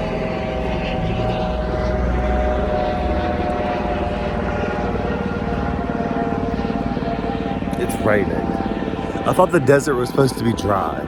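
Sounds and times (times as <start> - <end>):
mechanical drone: 0.0 - 11.0.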